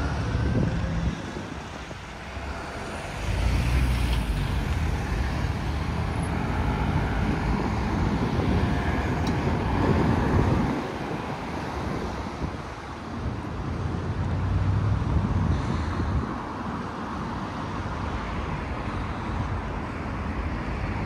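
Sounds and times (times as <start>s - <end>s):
vehicles going by: 0.0s - 21.0s.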